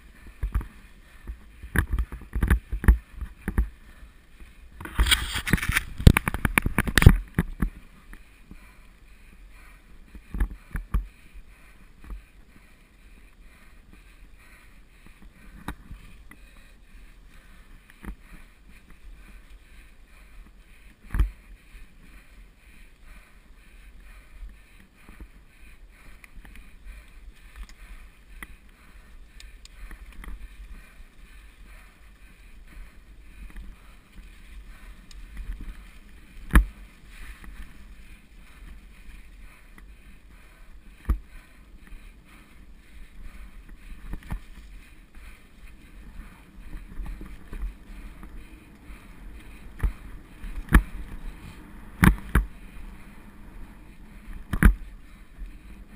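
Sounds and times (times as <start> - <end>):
muffled tyre rumble: 0.0 - 55.9.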